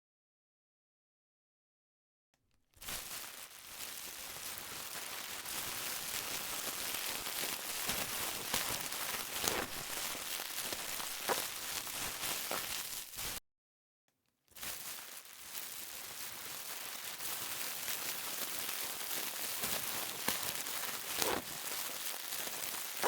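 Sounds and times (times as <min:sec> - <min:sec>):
plastic crackling: 0:02.7 - 0:13.4, 0:14.6 - 0:23.0.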